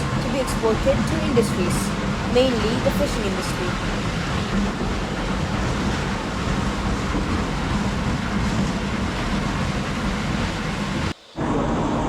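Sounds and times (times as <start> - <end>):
factory machinery rumbling: 0.0 - 12.0.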